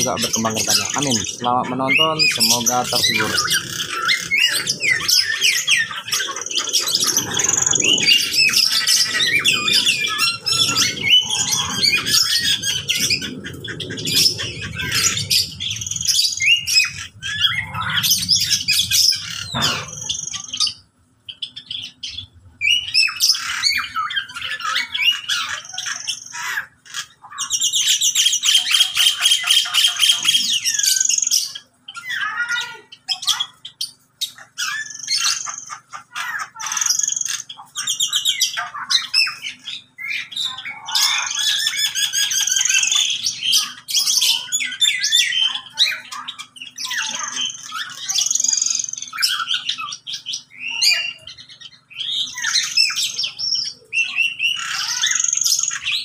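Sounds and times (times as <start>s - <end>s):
bird flock chirping and squawking: 0.0s - 56.0s
fast rattling bird trill: 0.0s - 56.0s.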